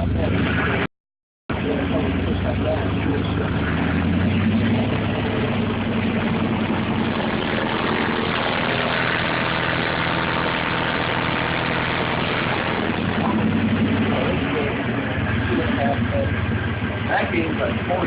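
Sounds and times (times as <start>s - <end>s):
car engine idling: 0.0s - 0.9s, 1.5s - 18.0s.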